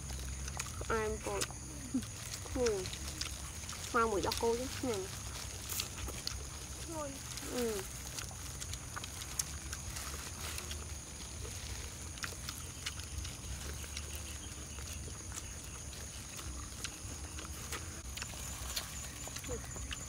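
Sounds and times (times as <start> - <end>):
chewing and lip-smacking: 0.0 - 20.0.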